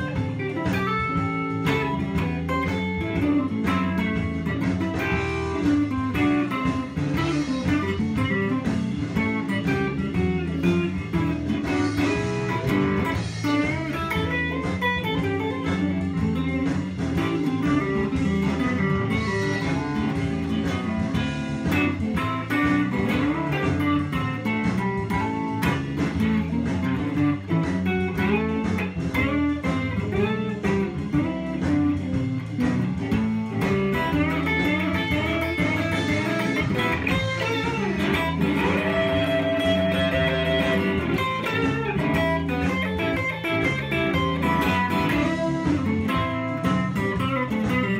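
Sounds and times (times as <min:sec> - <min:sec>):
electric guitar playing blues: 0:00.0 - 0:47.9.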